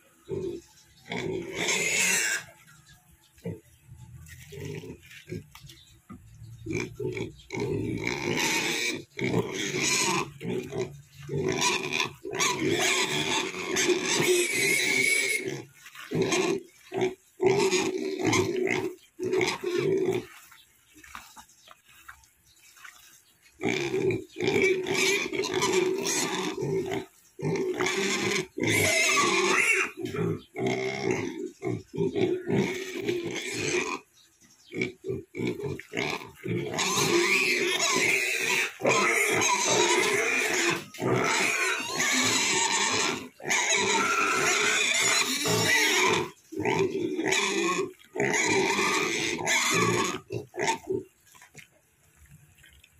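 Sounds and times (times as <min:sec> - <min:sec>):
pigs squealing and grunting: 0:00.0 - 0:02.7, 0:03.3 - 0:05.6, 0:06.6 - 0:21.2, 0:23.6 - 0:34.1, 0:34.7 - 0:51.6.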